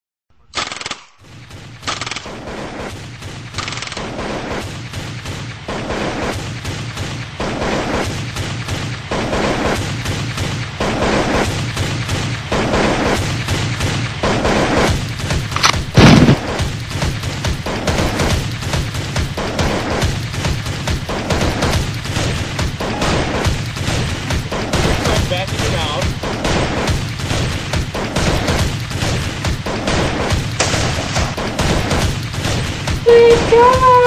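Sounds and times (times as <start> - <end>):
gunshots: 0.4 - 34.0
loud rifle shot: 0.5 - 34.0.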